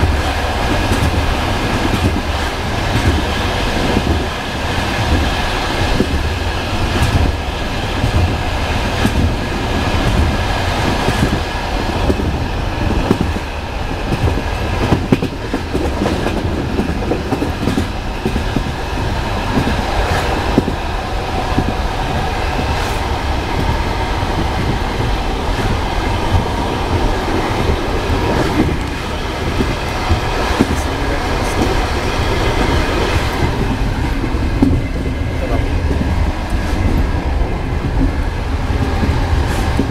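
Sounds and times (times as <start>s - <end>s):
train wheels clattering over joints: 0.0s - 39.9s.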